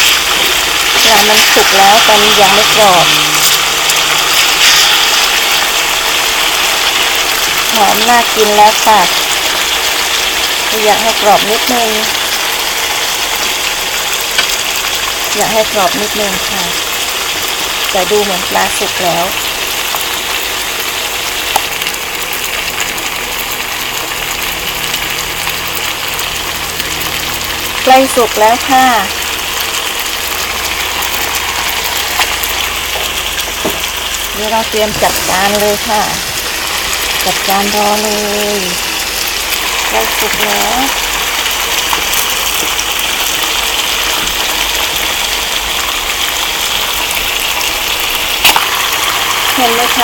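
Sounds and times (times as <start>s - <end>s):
fish sizzling in hot oil: 0.0s - 50.0s.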